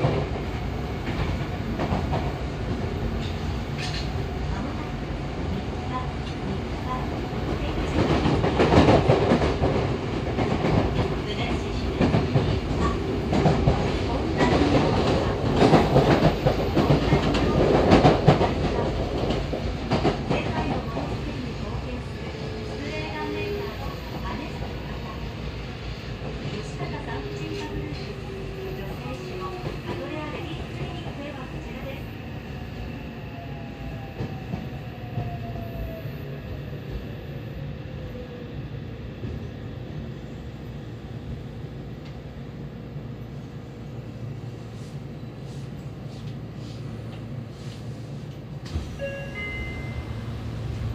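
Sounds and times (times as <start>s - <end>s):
train wheel-on-rail rumble: 0.0s - 50.9s.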